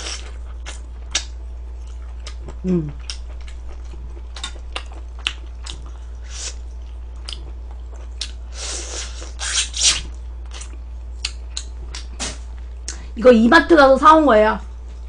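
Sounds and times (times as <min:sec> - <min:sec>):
wet chewing and smacking: 0:00.0 - 0:08.5, 0:09.2 - 0:13.0
steady low hum: 0:00.0 - 0:15.0.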